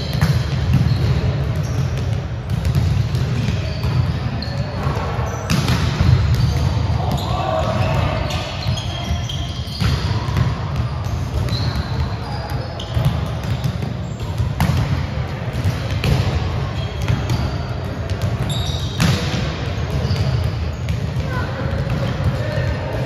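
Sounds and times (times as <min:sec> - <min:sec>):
volleyballs struck and bouncing: 0:00.0 - 0:23.0.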